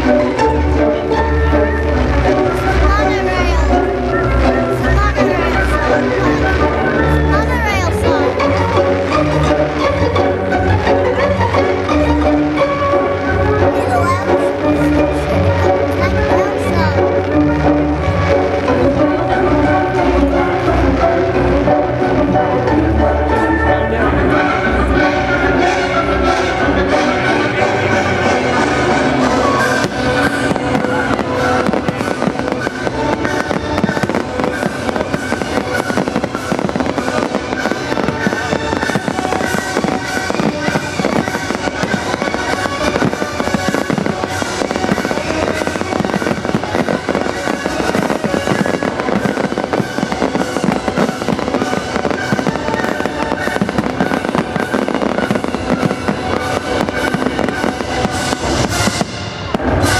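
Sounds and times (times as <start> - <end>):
fireworks crackling bangs: 0.0 - 59.9
loud music: 0.0 - 59.9.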